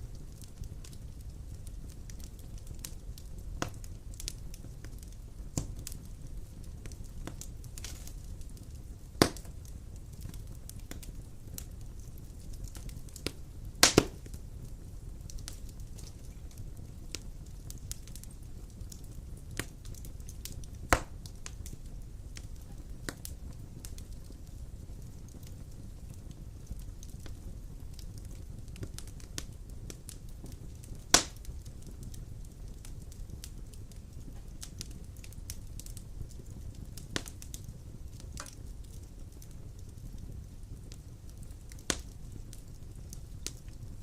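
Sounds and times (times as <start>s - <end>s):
fire pops and snaps: 0.0s - 44.0s
wood fire crackling: 0.0s - 44.0s.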